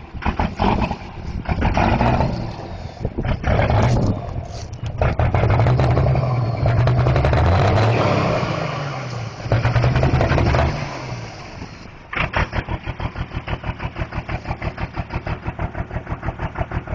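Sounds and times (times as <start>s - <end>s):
diesel engine revving and idling: 0.0s - 16.9s.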